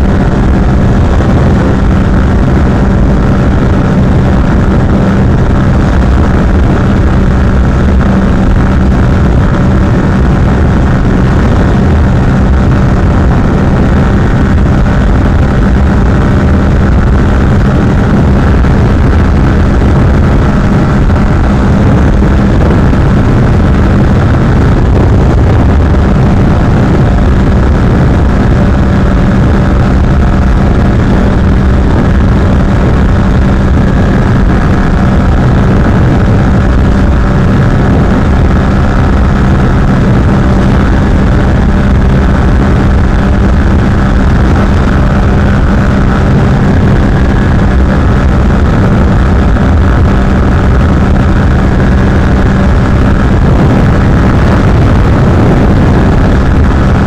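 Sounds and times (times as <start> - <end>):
motorcycle engine at high revs: 0.0 - 57.0.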